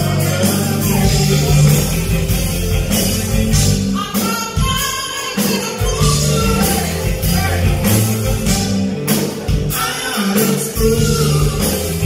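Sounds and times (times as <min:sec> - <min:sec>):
bass line: 0:00.0 - 0:12.0
drums: 0:00.0 - 0:12.0
electric keyboard: 0:00.0 - 0:12.0
person singing: 0:00.0 - 0:12.0.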